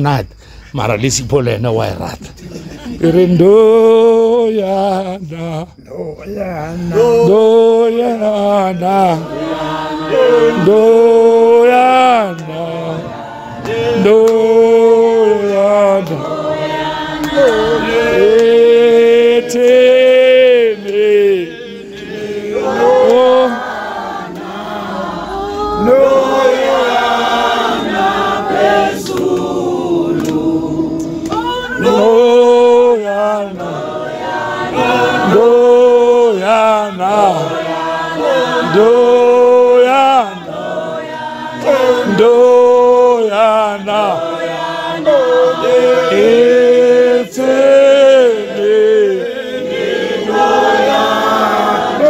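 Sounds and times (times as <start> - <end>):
group singing church chorus: 2.4 - 52.0.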